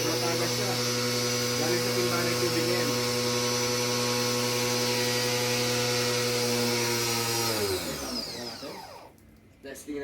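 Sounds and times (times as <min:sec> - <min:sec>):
pressure washer motor humming: 0:00.0 - 0:09.2.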